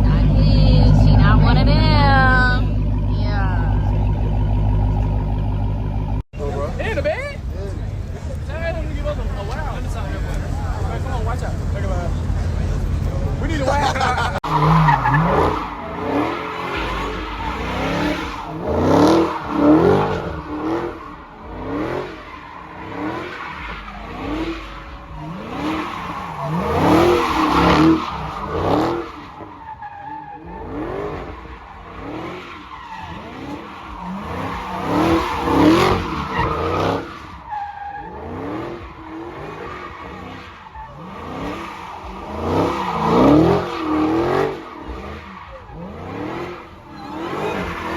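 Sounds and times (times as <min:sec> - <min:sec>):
engine revving: 0:00.0 - 0:07.2, 0:08.2 - 0:29.6, 0:30.2 - 0:47.9
tyres squealing and skidding: 0:00.0 - 0:47.9.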